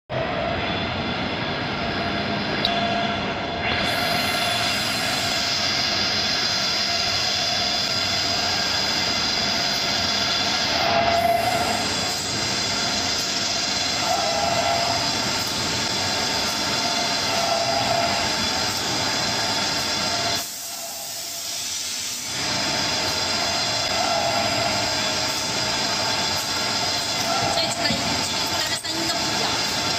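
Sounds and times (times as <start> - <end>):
constant mechanical whine: 0.1 - 29.9.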